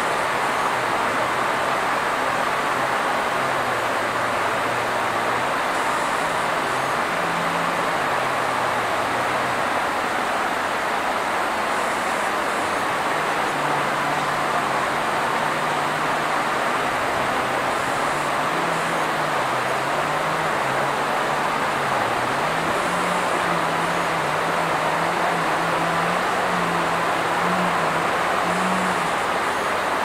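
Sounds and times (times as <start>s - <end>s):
rushing background noise: 0.0s - 30.0s
faint wavering low hum: 0.2s - 30.0s.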